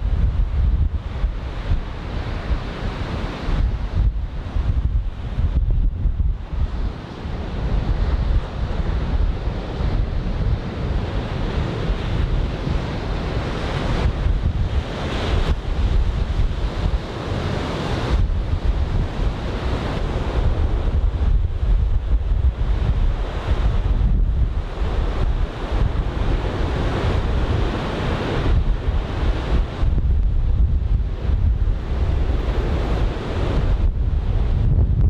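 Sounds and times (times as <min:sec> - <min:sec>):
wind buffeting microphone: 0:00.0 - 0:35.0
heavy surf breaking: 0:00.9 - 0:35.0.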